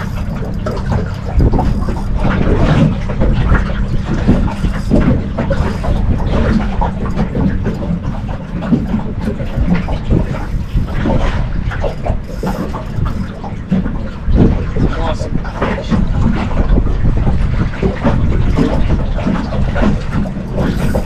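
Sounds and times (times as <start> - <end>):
boat engine low rumble: 0.0 - 21.0
knocks and splashes: 0.0 - 21.0
wind buffeting microphone: 0.0 - 21.0.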